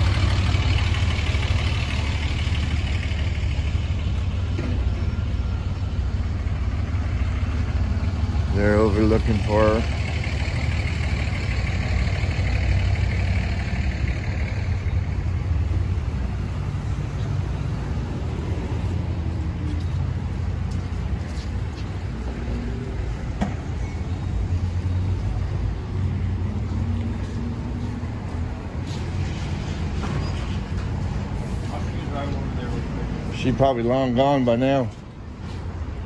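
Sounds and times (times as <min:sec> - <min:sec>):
road traffic rumble: 0:00.0 - 0:36.0
vehicles idling: 0:00.0 - 0:36.0.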